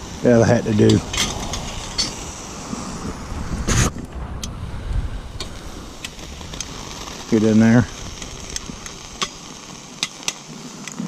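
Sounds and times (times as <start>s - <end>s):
steady background rush: 0.0s - 10.8s.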